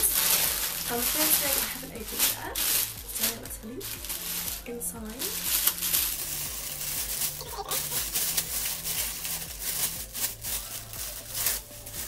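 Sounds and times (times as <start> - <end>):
plastic bag crinkling: 0.0 - 12.0
quiet background music: 0.0 - 12.0.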